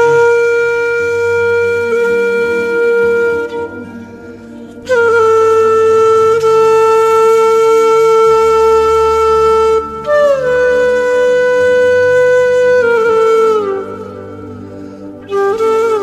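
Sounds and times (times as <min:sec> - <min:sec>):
solo wind instrument: 0:00.0 - 0:16.0.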